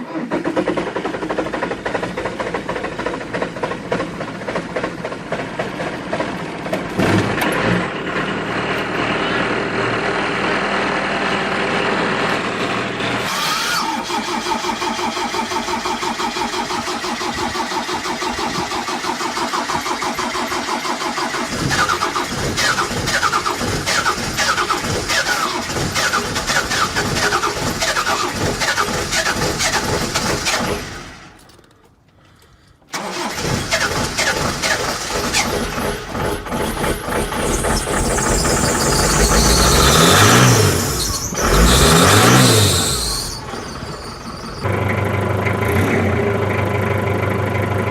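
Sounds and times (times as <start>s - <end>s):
diesel engine cranking and starting: 0.0s - 47.9s
engine revving: 6.1s - 31.4s, 33.0s - 47.9s.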